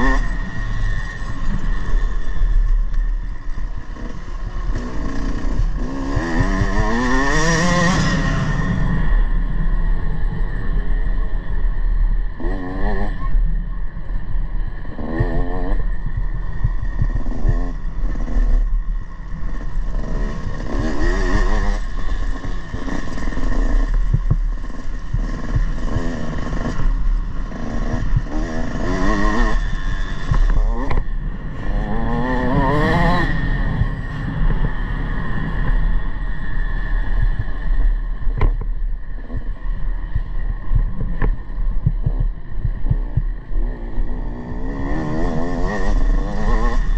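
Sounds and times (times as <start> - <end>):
motocross bike engine revving: 0.0 - 10.8, 12.4 - 13.4, 14.8 - 46.9
steady low rumble: 0.0 - 46.9.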